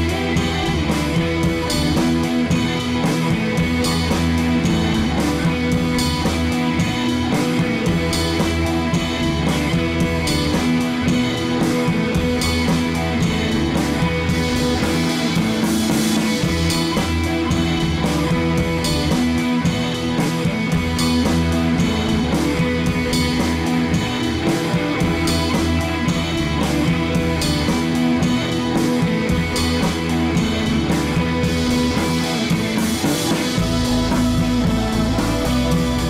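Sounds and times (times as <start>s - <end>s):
rock music with guitar and drums: 0.0s - 36.0s.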